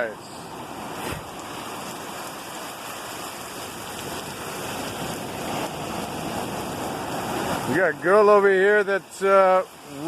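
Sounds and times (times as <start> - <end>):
ocean surf washing: 0.0 - 10.0
rain falling: 0.0 - 10.0.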